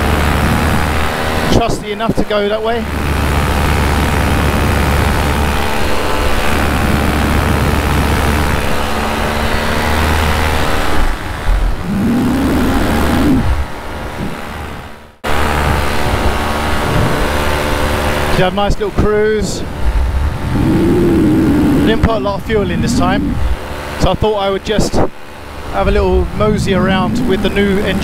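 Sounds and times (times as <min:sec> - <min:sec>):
paramotor engine drone: 0:00.0 - 0:28.0.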